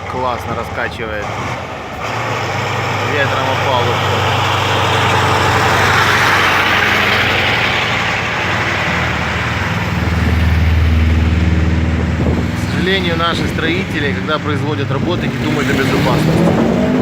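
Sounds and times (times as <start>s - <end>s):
diesel engine humming: 0.0s - 17.0s
street noise: 0.0s - 17.0s.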